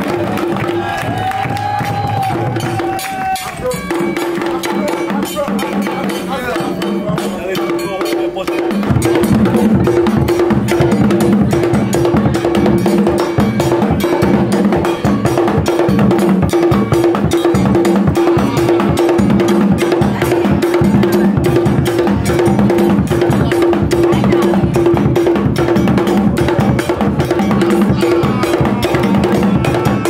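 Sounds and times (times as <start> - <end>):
drum-led music with fast beat: 0.0 - 30.0.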